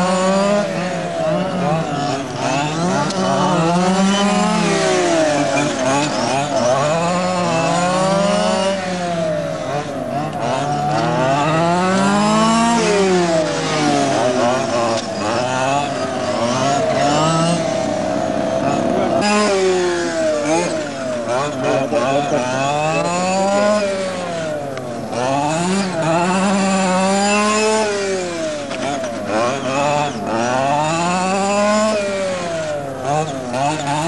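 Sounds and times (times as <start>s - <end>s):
small two-stroke engines revving: 0.0s - 34.0s.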